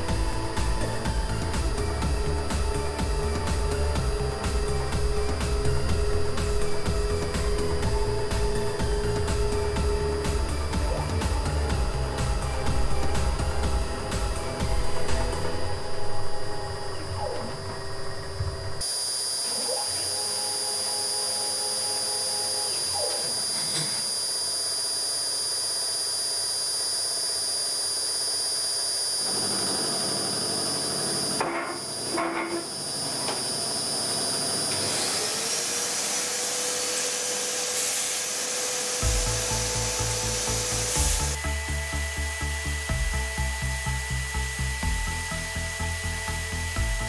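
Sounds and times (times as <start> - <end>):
milling machine whine: 0.0 - 47.0.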